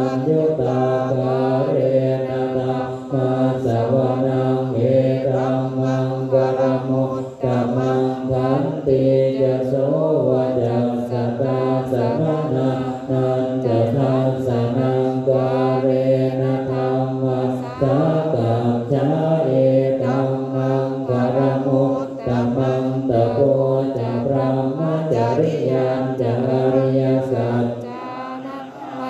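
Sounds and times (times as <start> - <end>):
monks chanting in unison: 0.0 - 29.0.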